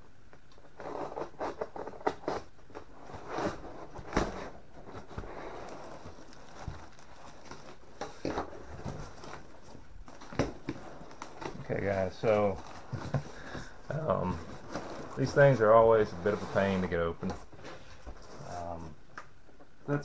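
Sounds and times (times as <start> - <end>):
cardboard box handled and opened: 1.0 - 18.9.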